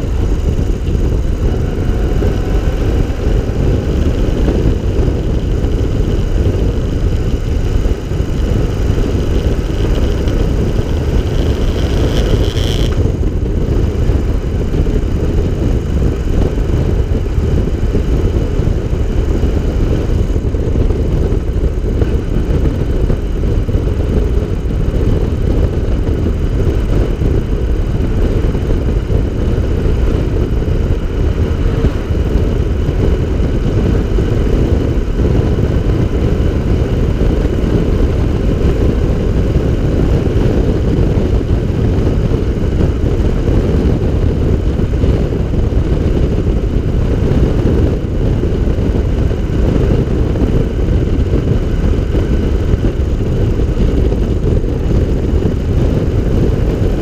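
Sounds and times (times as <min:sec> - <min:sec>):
engine running steadily: 0:00.0 - 0:57.0
wind and road rush: 0:00.0 - 0:57.0.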